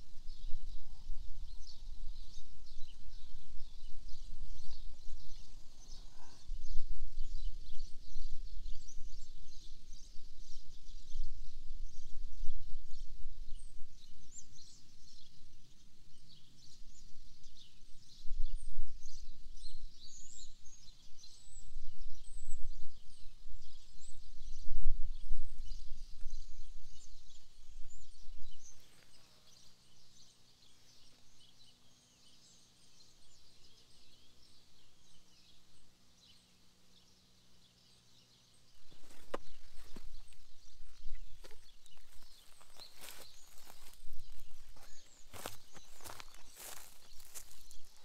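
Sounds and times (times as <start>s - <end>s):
faint low hum: 0.0s - 48.0s
small birds chirping: 0.0s - 48.0s.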